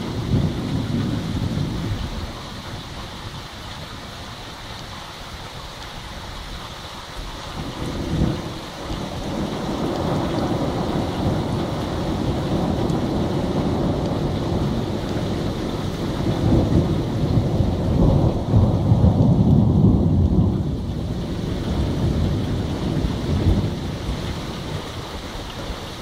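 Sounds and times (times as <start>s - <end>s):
thunder rumbling: 0.0s - 3.4s, 7.5s - 26.0s
steady rain: 0.0s - 26.0s.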